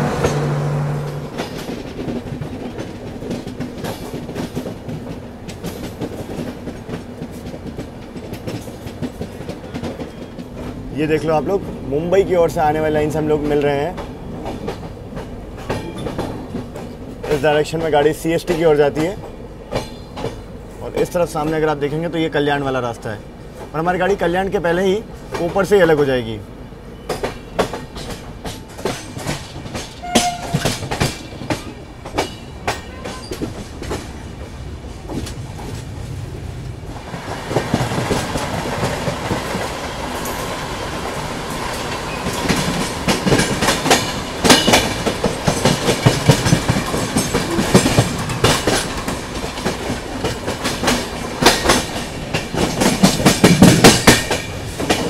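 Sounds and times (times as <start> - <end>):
train wheels clattering over rail joints: 0.0 - 26.2, 26.9 - 36.2, 36.9 - 55.0.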